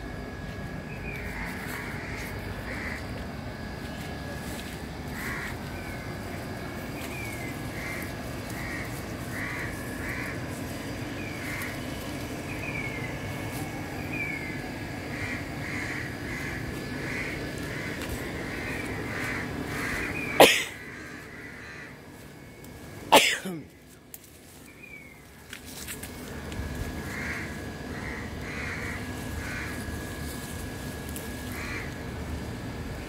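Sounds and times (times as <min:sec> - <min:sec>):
birds calling: 0:00.1 - 0:33.0.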